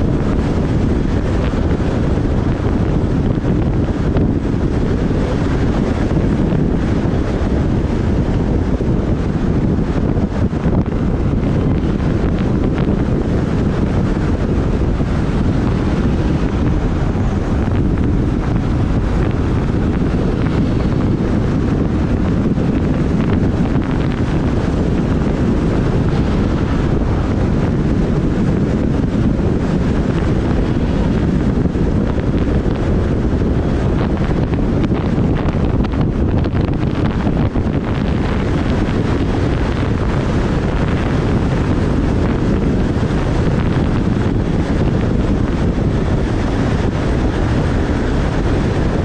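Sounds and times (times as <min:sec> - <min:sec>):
motorbike moving: 0:00.0 - 0:49.0
wind rumble on microphone: 0:00.0 - 0:49.0.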